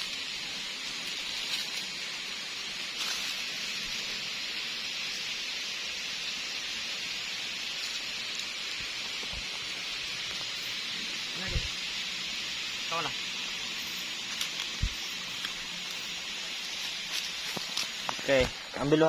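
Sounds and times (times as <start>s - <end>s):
stream water running: 0.0s - 19.0s.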